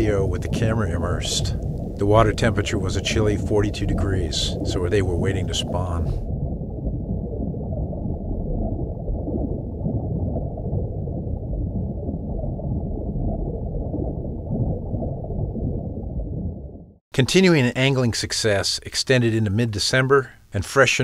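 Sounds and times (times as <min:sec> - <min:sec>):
muffled underwater creek rumble: 0:00.0 - 0:17.0.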